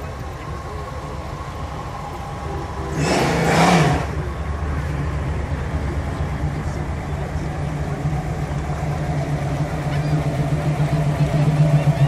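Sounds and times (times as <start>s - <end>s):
car engine and exhaust rumbling: 0.0s - 12.0s.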